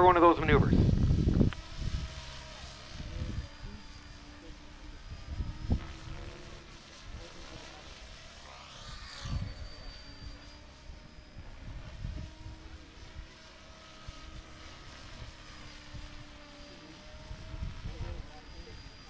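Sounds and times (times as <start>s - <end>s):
model helicopter rotor whine: 0.0s - 19.0s.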